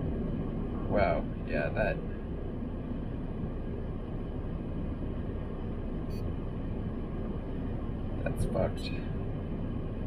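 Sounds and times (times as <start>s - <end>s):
low rumble inside car: 0.0s - 10.0s.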